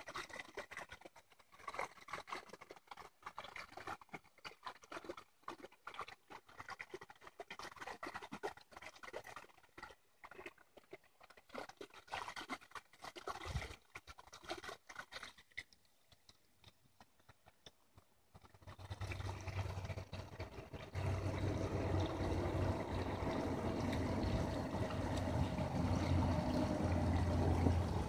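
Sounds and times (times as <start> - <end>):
dogs lapping water: 0.0 - 28.0
wet splashes: 0.0 - 28.0.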